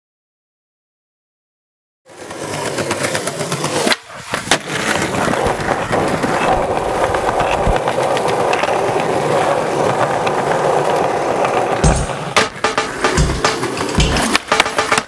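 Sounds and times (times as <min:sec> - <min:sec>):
skateboard clacks: 0:02.1 - 0:15.0
skateboard wheels rolling on paving: 0:02.1 - 0:15.0.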